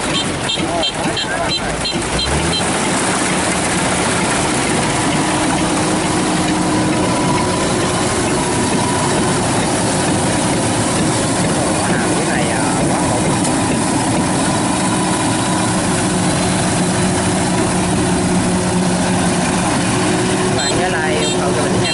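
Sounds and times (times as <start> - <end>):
combine harvester engine drone: 0.0 - 21.9.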